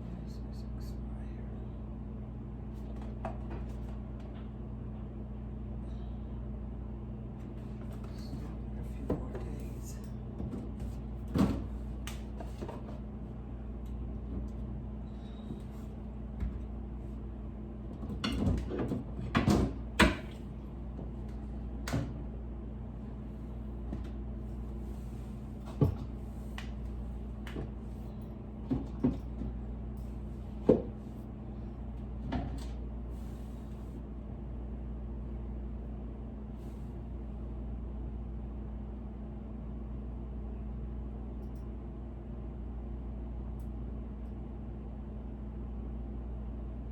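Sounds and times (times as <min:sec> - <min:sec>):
refrigerator hum: 0:00.0 - 0:46.9.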